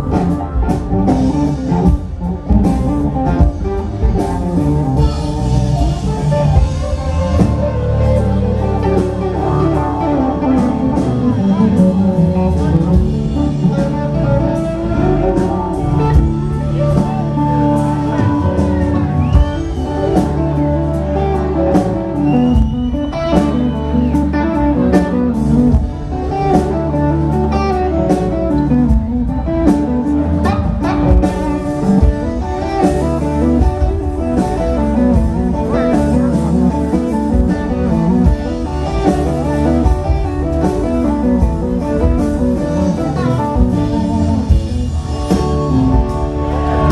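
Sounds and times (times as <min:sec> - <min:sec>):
drums: 0:00.0 - 0:46.9
electric guitars: 0:00.0 - 0:46.9.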